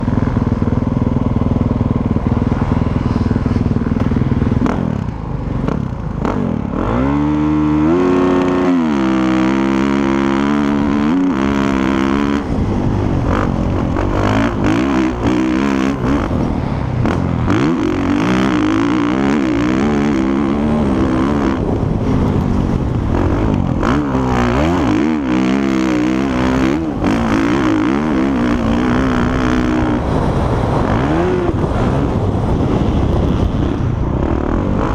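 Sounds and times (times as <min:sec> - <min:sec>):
motocross motorcycle engines revving: 0:00.0 - 0:34.9.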